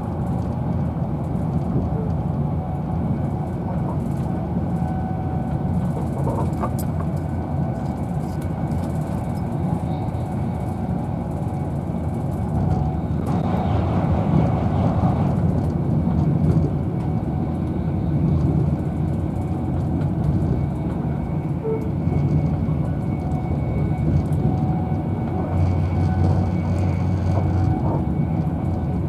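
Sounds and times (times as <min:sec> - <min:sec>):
electric train running at speed: 0:00.0 - 0:29.0.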